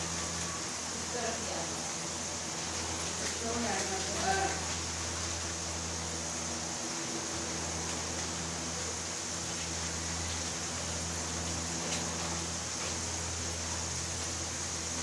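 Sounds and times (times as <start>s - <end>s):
fries sizzling in hot oil: 0.0s - 15.0s
low steady hum: 0.0s - 15.0s.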